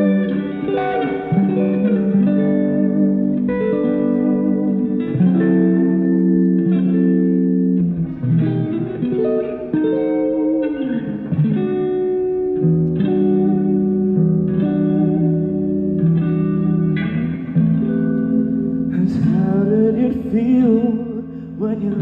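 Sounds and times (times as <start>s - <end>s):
electric guitar chords: 0.0s - 22.0s.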